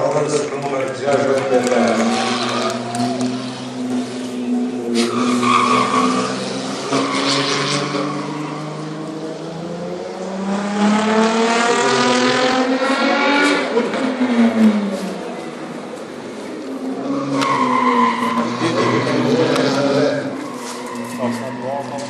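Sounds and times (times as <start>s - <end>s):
race car engine: 0.0s - 22.0s.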